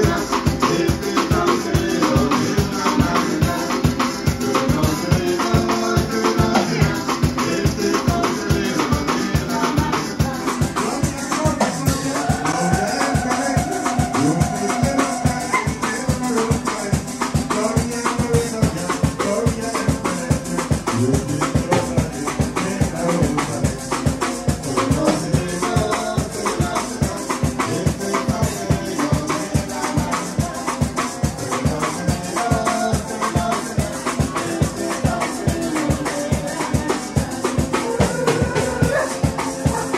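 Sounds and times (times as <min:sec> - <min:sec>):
acoustic guitars: 0:00.0 - 0:39.9
drum kit beat: 0:00.0 - 0:39.9
man singing: 0:00.0 - 0:39.9.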